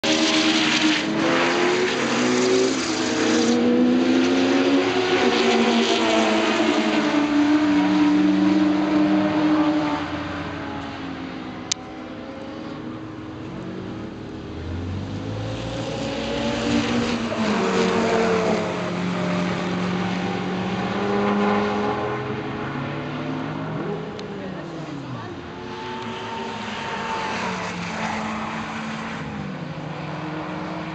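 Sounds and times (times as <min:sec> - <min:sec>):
sports car engines at hard throttle: 0:00.0 - 0:27.0.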